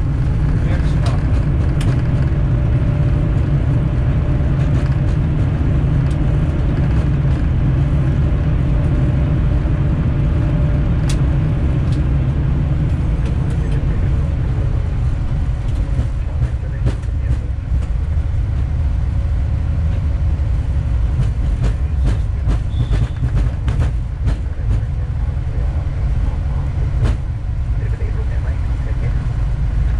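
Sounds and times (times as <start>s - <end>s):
airliner rolling on runway: 0.0s - 29.9s.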